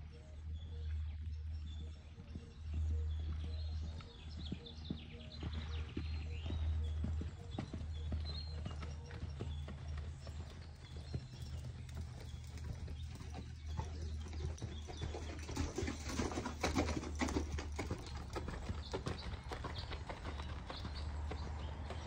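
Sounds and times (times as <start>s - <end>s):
hoofbeats on sand: 1.5s - 22.0s.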